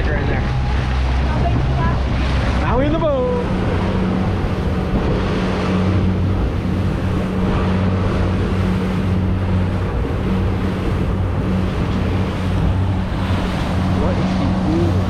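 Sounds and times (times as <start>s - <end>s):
boat engine humming: 0.0s - 15.0s
water rushing: 0.0s - 15.0s
wind: 0.0s - 15.0s.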